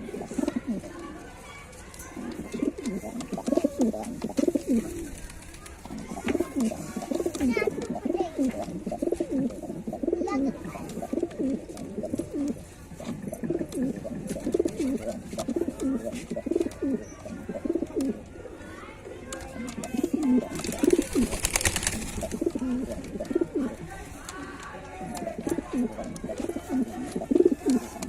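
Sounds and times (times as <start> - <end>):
pigeons cooing: 0.0 - 1.3, 2.1 - 23.8, 24.9 - 28.0.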